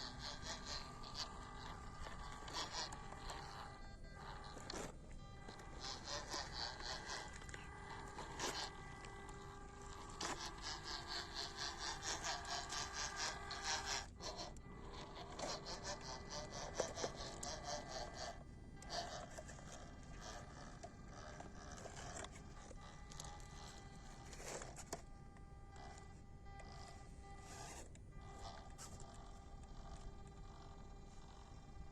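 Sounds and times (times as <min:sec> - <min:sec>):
electric motor and gearbox whine: 0:00.0 - 0:31.9.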